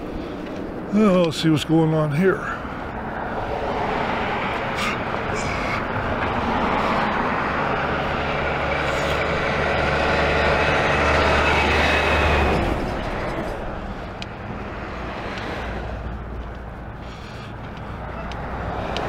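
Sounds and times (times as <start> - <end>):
heavy vehicle passing: 0.0 - 19.0.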